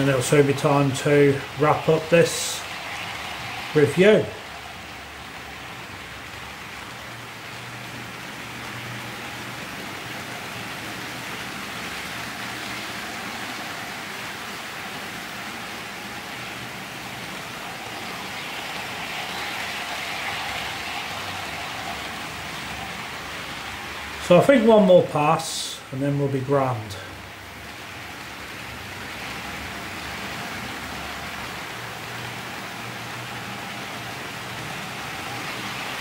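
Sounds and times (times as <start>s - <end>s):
model trains whirring on track: 0.0s - 36.0s.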